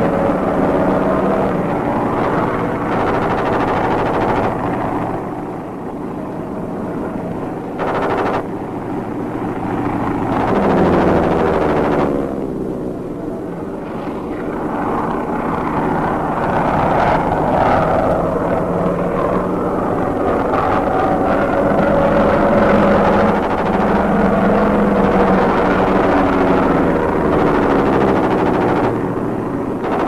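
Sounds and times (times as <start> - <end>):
sharp cracks: 0.0 - 6.3, 7.2 - 12.5, 13.5 - 30.0
propeller plane engines droning: 0.0 - 30.0.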